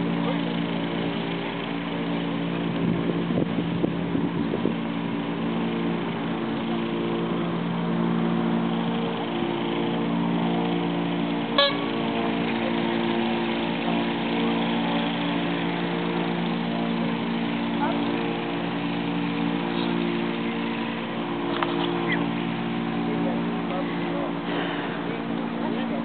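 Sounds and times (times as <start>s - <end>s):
steady motor drone: 0.0s - 26.0s.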